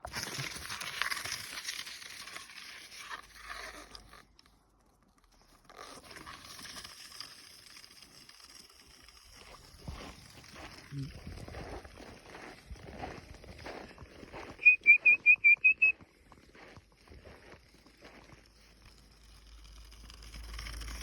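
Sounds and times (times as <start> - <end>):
snow creaking and crunching: 0.0 - 21.0.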